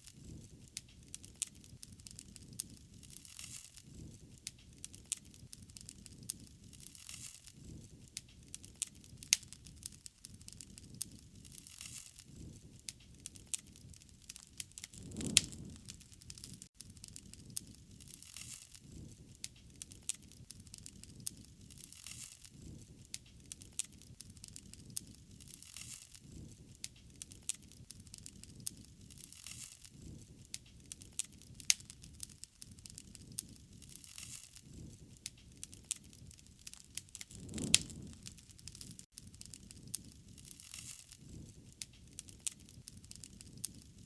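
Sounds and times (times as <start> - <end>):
soft rumble of flame: 0.0 - 44.0
wood fire crackling and popping: 0.0 - 44.0.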